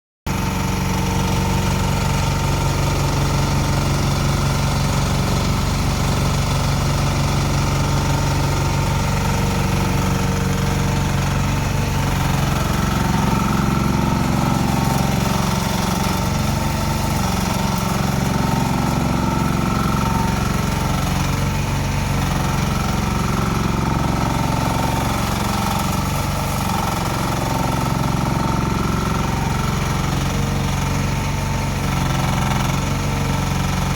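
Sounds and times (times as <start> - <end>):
mini excavator engine running: 0.3 - 33.9.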